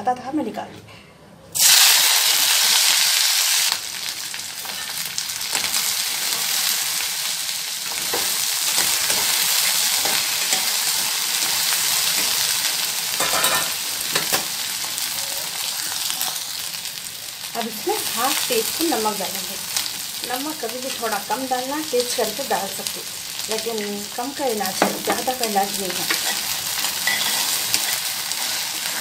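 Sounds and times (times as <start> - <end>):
vegetables sizzling in hot oil: 1.6 - 29.0.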